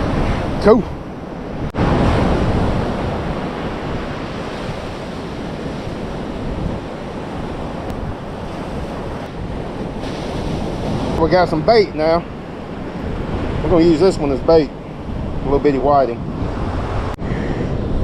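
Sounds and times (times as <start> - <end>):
ocean surf washing up: 0.0 - 18.0
wind buffeting microphone: 0.0 - 18.0.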